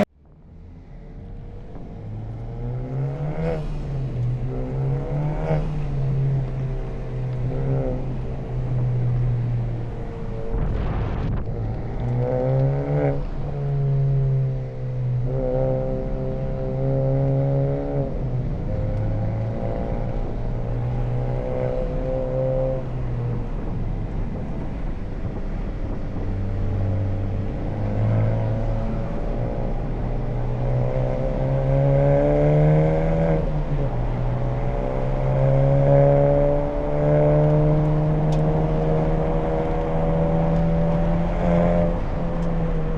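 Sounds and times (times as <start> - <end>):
car engine revving through gears: 1.7 - 42.9.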